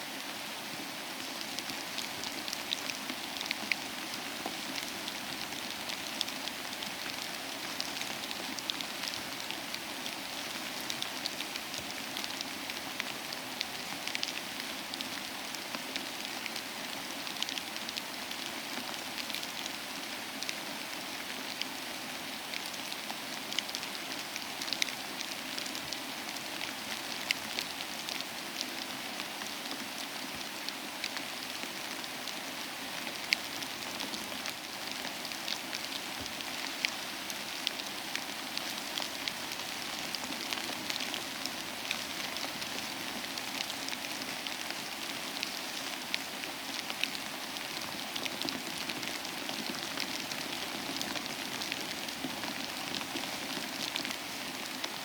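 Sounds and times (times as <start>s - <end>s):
rain drops pattering: 0.1s - 55.0s.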